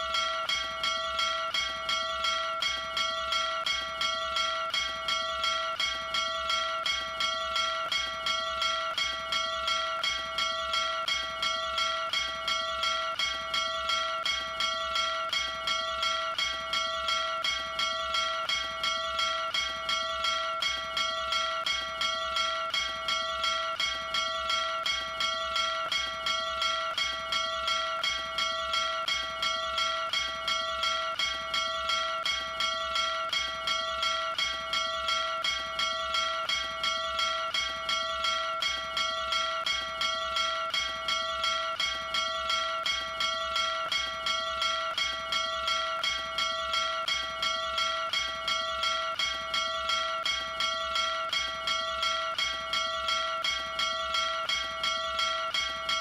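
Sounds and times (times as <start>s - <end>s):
small brass bell ringing rapidly: 0.0s - 56.0s.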